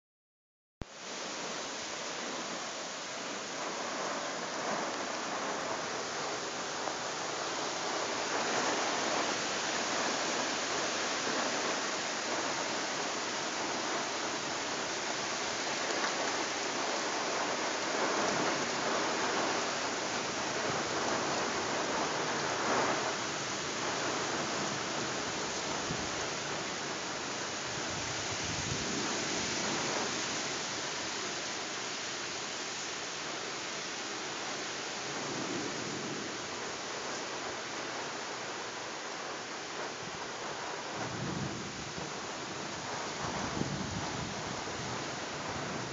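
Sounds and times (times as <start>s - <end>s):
heavy rain pouring: 0.8s - 45.9s.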